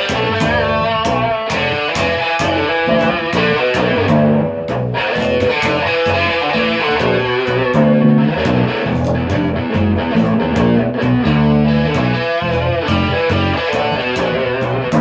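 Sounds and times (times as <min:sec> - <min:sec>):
bass guitar: 0:00.0 - 0:15.0
distorted electric guitar: 0:00.0 - 0:15.0
steady drum beat: 0:00.0 - 0:15.0.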